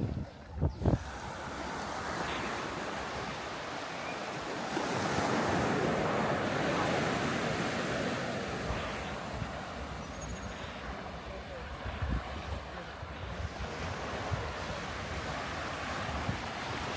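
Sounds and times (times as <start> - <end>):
surf washing onto sandy beach: 0.8 - 16.9.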